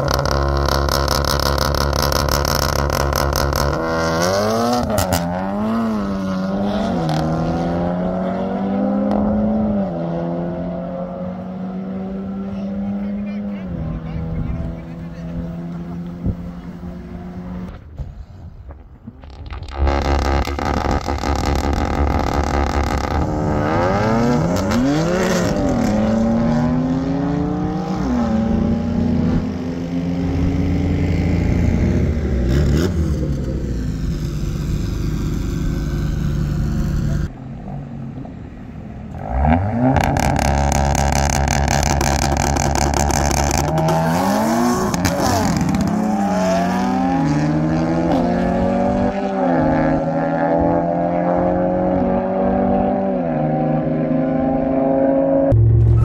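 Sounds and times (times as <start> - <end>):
car engines at full throttle: 0.0 - 18.0, 18.7 - 56.0.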